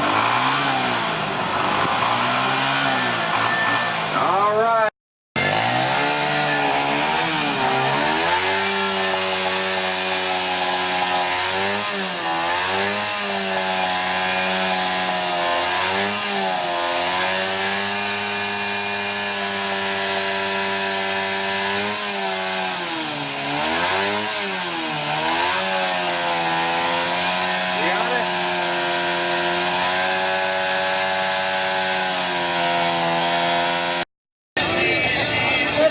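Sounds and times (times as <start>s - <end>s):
motorcycle engine idling and revving: 0.0s - 35.9s.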